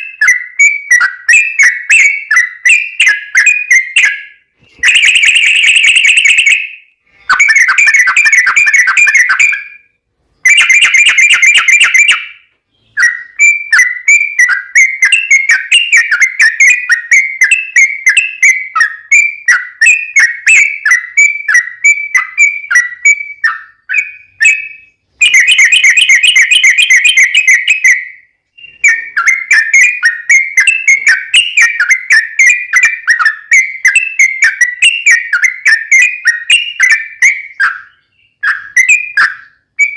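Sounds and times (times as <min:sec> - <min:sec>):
bird singing bubbling whistles: 0:00.0 - 0:09.8, 0:10.4 - 0:39.9.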